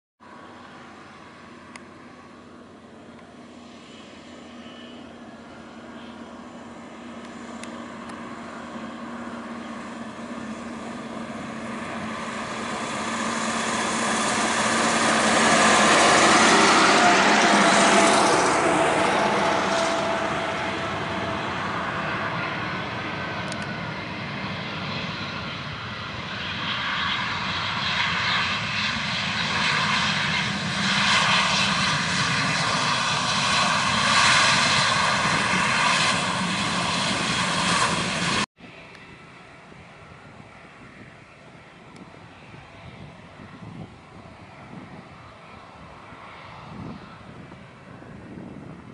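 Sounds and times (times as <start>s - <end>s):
falling jet whine: 0.3s - 48.9s
jet engines roaring: 0.3s - 48.9s.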